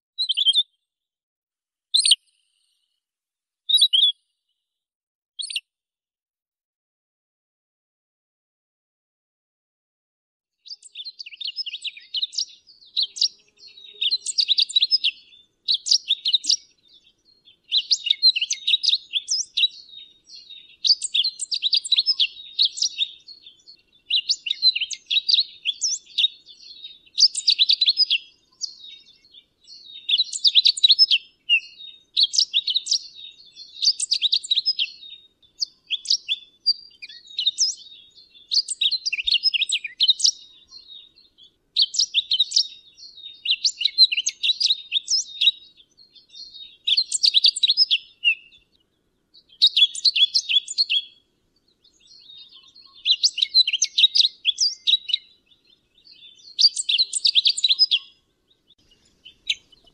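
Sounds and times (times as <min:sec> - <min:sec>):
bird singing warbling phrases: 0:00.2 - 0:00.8, 0:01.9 - 0:02.7, 0:03.7 - 0:04.2, 0:05.4 - 0:05.7, 0:10.6 - 0:59.9.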